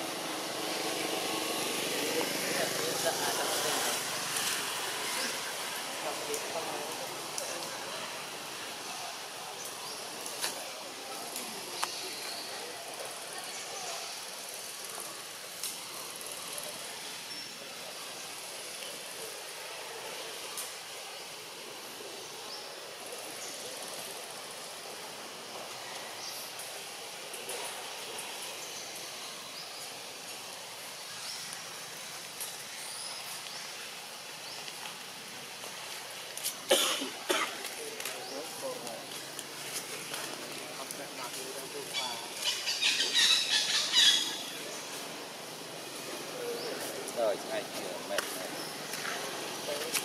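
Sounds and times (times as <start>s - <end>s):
outdoor background hiss: 0.0s - 50.0s.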